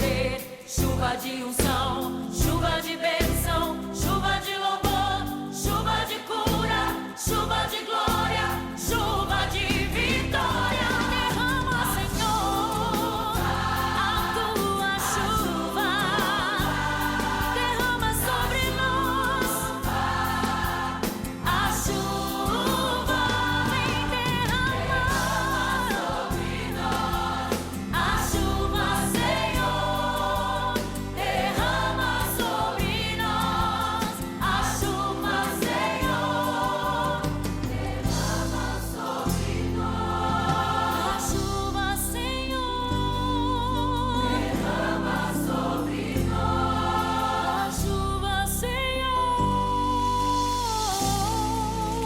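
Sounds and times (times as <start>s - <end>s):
band accompaniment: 0.0s - 42.4s, 44.3s - 48.3s
choir singing gospel: 0.0s - 52.0s.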